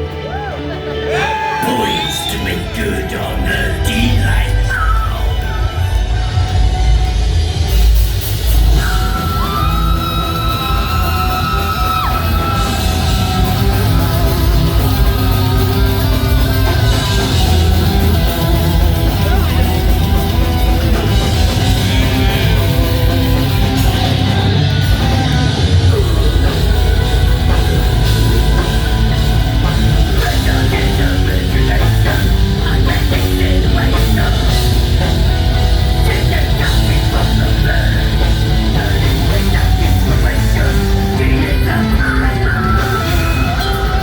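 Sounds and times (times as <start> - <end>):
rock band playing: 0.0 - 44.0.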